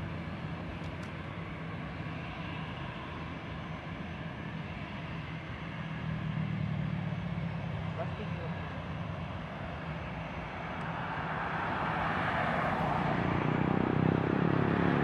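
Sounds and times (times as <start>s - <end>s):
jet engines at low power: 0.0s - 15.0s.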